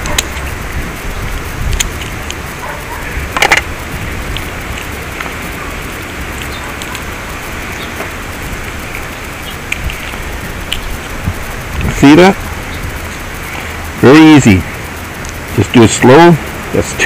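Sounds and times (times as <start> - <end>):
faint handling ticks: 0.0 - 17.0
steady outdoor hiss: 0.0 - 17.0.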